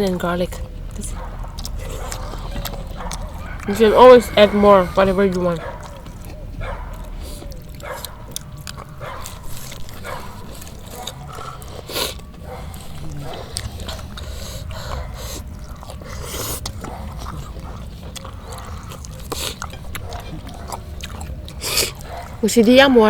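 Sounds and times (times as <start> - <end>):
chewing and crunching food: 0.0 - 23.0
dog whining: 0.6 - 23.0.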